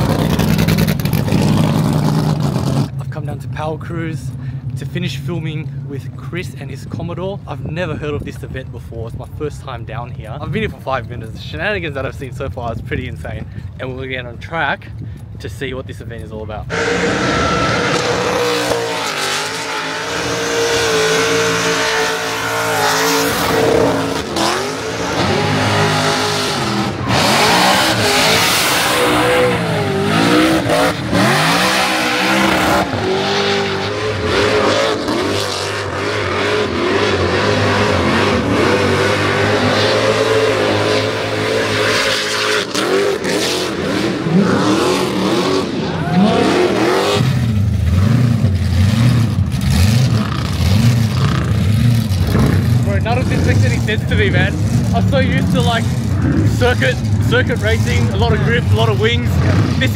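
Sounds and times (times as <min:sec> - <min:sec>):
car engine revving: 0:00.0 - 0:05.8, 0:16.6 - 0:59.9.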